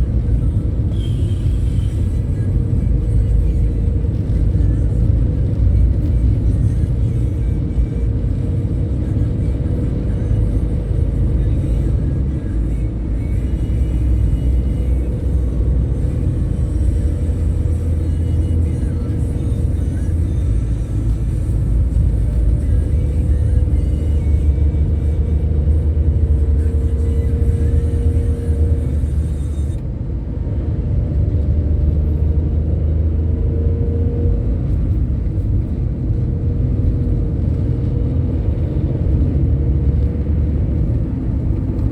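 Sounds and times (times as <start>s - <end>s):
bus engine rumble: 0.0s - 41.9s.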